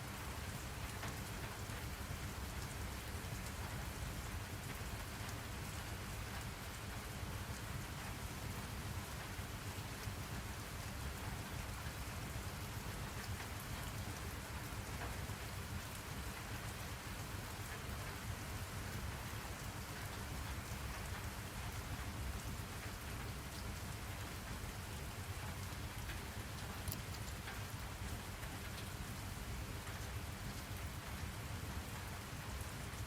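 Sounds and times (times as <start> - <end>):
steady rain hiss: 0.0 - 33.0
rain drops ticking: 0.2 - 33.0.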